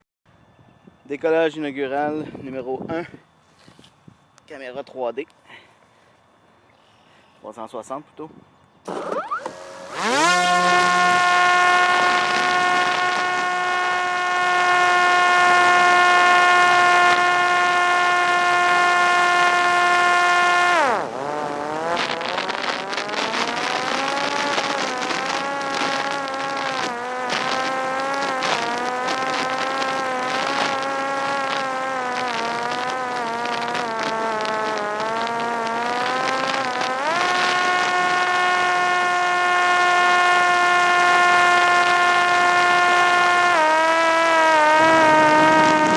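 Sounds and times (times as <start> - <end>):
drone propeller motor whine: 8.9 - 45.9.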